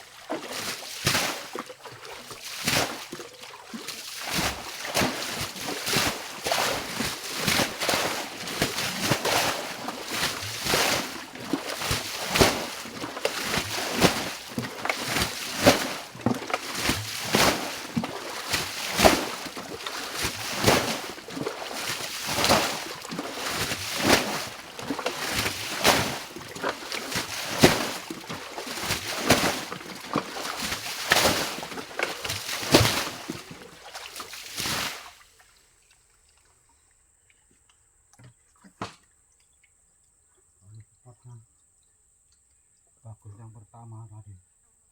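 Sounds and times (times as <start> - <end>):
water splashing and sloshing: 0.0 - 39.6.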